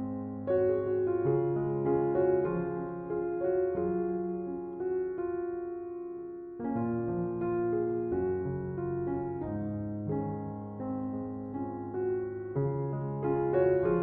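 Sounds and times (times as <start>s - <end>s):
slow calm piano music: 0.0s - 14.0s.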